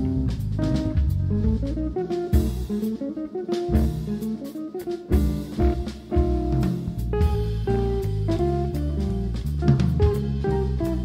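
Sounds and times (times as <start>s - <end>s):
drum kit and cymbal hits: 0.0s - 11.0s
electric bass: 0.0s - 11.0s
electric guitar: 0.0s - 11.0s.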